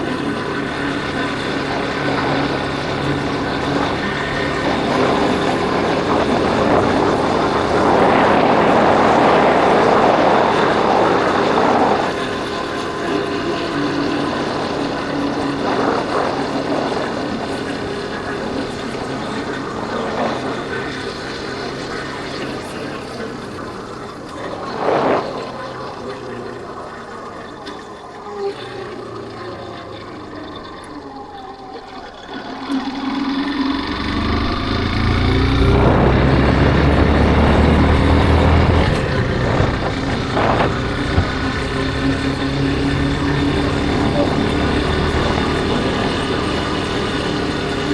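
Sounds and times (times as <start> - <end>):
wind rush on microphone: 0.0 - 30.4, 32.6 - 47.9
motorcycle engine running: 0.0 - 47.9.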